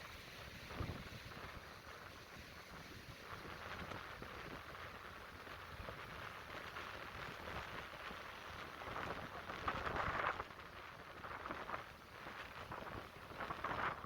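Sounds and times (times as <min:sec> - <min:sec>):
wind rumbling on microphone: 0:00.4 - 0:14.0.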